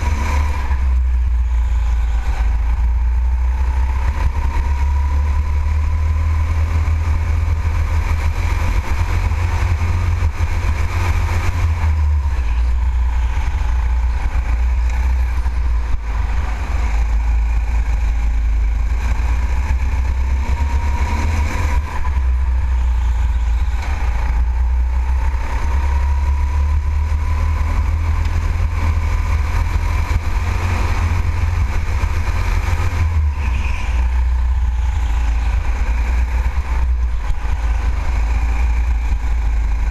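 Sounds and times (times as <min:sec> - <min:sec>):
go-kart engine rumble and whine: 0:00.0 - 0:39.9.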